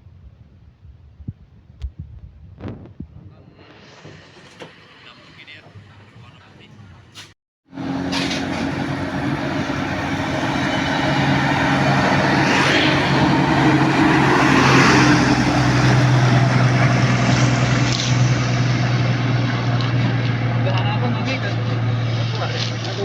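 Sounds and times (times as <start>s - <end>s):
truck engine running: 3.7s - 23.0s.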